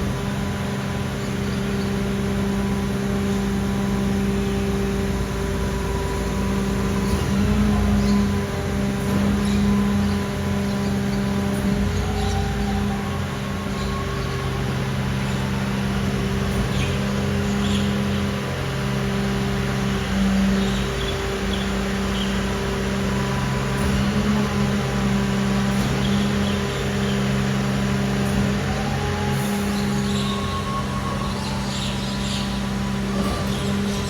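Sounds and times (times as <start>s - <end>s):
truck diesel engine humming: 0.0s - 34.0s.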